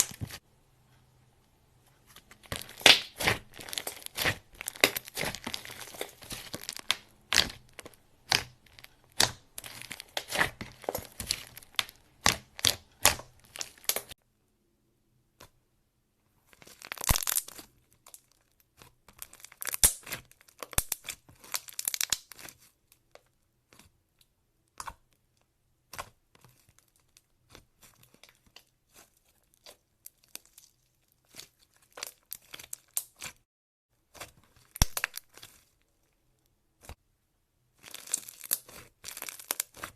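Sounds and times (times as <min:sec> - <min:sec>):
sticky slime crackles and pops: 0:00.0 - 0:00.4, 0:02.1 - 0:14.2, 0:16.6 - 0:33.4, 0:34.0 - 0:36.2, 0:37.7 - 0:39.9.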